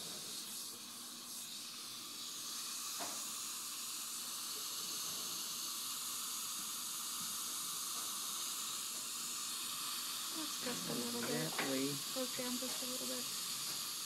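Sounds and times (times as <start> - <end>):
dental suction hissing: 0.0 - 14.0.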